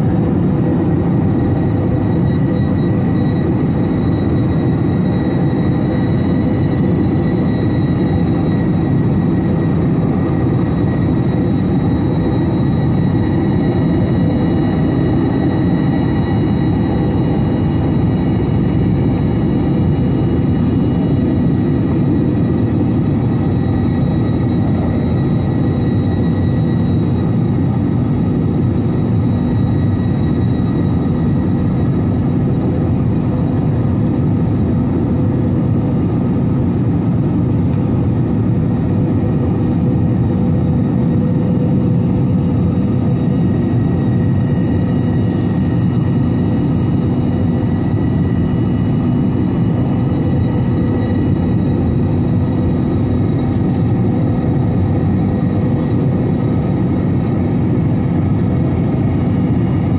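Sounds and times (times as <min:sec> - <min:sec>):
aircraft cabin jet engine rush: 0:00.0 - 0:59.9.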